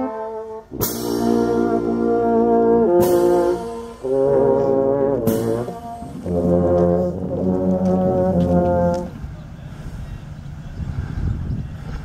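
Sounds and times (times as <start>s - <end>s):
brass band playing funeral march: 0.0s - 9.9s.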